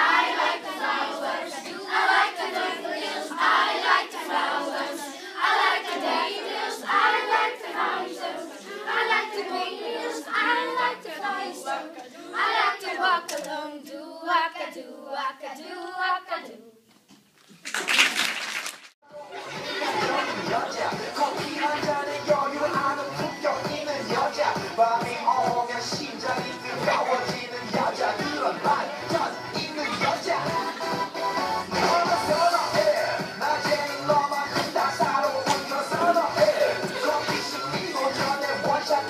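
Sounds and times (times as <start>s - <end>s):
children's choir singing: 0.0s - 16.8s, 19.1s - 39.0s.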